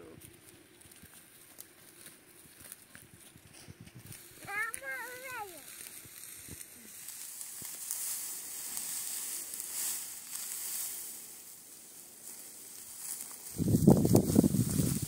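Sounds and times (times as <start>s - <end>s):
dry hay rustling and crackling: 0.0s - 15.0s.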